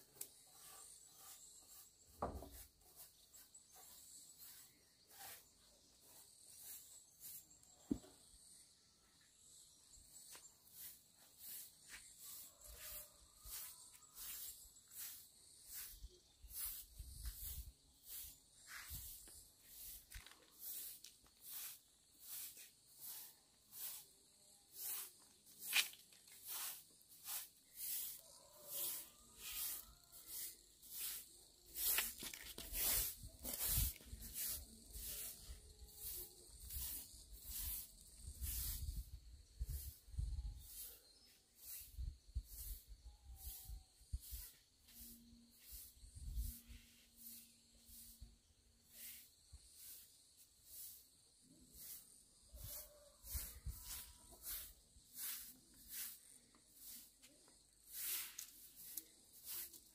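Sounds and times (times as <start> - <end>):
hand tool scraping strokes: 0.0 - 8.3, 10.0 - 59.9.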